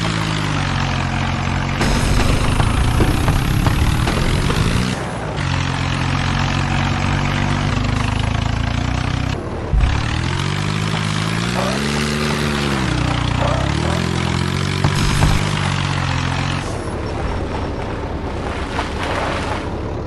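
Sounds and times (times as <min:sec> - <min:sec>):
tractor diesel engines under load: 0:00.0 - 0:20.0.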